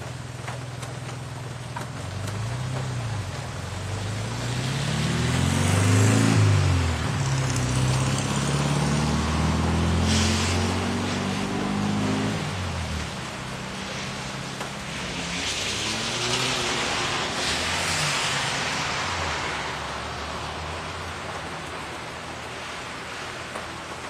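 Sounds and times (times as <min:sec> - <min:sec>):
steady rain hiss: 0:00.0 - 0:24.0
tyre hiss on wet pavement: 0:00.0 - 0:24.0
car engine passing by: 0:02.2 - 0:24.0.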